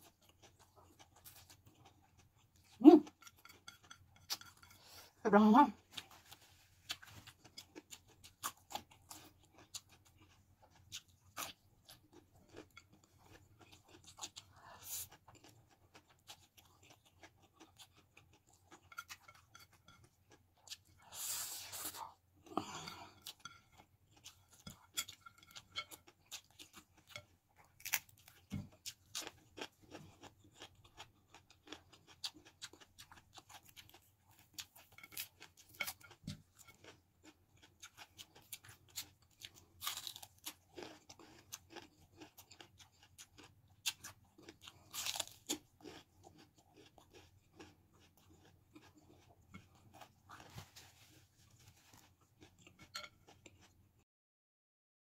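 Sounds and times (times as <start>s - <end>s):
crunchy chewing: 0.0s - 5.0s, 5.8s - 53.8s.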